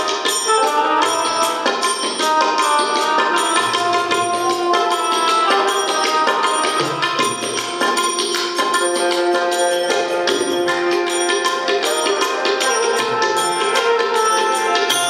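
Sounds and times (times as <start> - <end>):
banjo melody: 0.0 - 15.0
hand cymbals ringing: 0.0 - 15.0
harmonium: 0.0 - 15.0
tabla drumming: 0.0 - 15.0.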